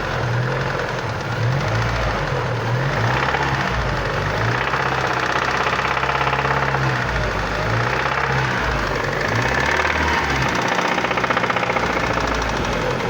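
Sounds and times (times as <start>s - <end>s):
car engine idling: 0.0s - 13.0s
rapid ticking knock: 0.2s - 13.0s.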